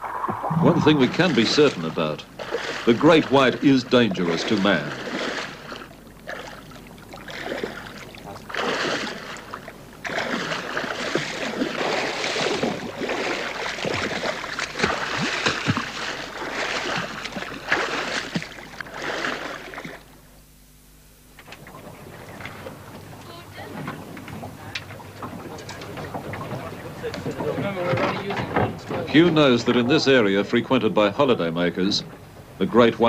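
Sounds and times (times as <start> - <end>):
sea water splashing and churning: 0.0 - 20.2, 21.4 - 33.0.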